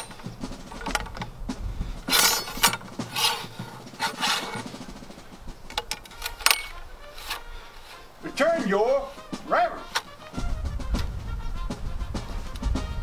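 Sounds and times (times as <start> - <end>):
ramrod scraping in musket barrel: 0.0 - 11.1.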